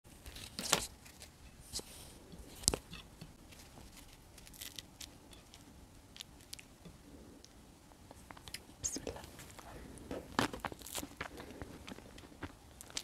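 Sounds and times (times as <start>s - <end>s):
bread crust crackling: 0.1s - 13.0s.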